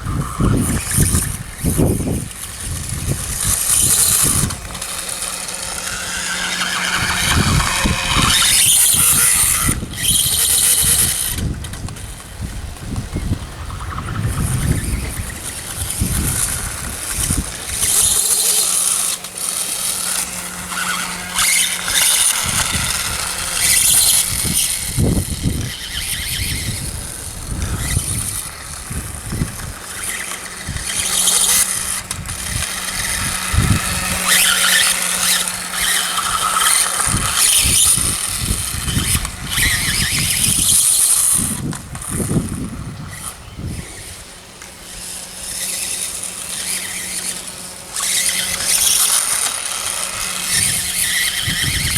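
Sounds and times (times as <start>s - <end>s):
electric motor whining: 0.0s - 51.9s.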